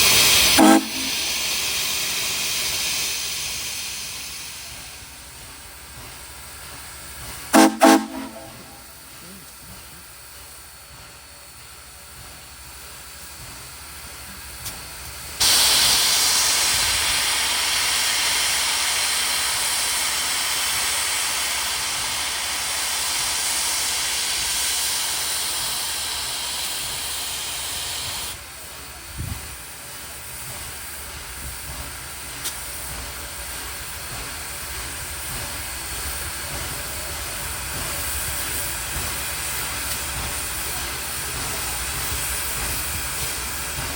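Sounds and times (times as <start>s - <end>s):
steam locomotive hissing steam: 0.0s - 43.9s.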